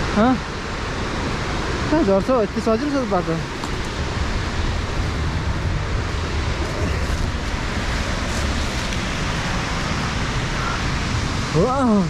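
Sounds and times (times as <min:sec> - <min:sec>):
waterfall rushing: 0:00.0 - 0:12.0
wind buffeting microphone: 0:00.5 - 0:12.0.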